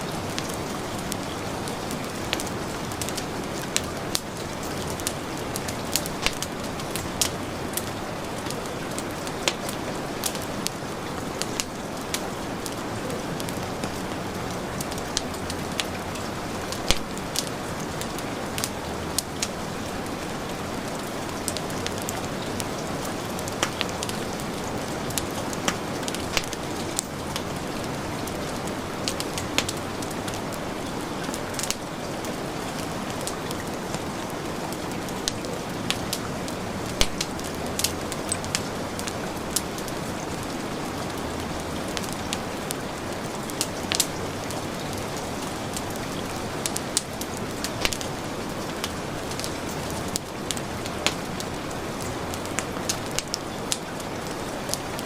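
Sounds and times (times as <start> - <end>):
heavy rain hissing: 0.0 - 55.0
wood fire crackling: 0.0 - 55.0.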